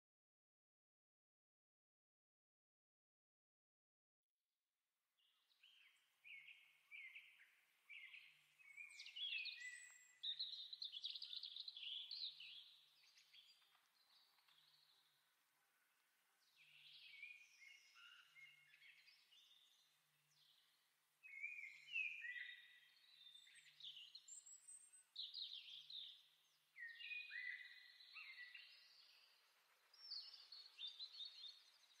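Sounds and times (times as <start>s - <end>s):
small birds chirping and trilling: 5.2s - 15.2s, 16.4s - 32.0s.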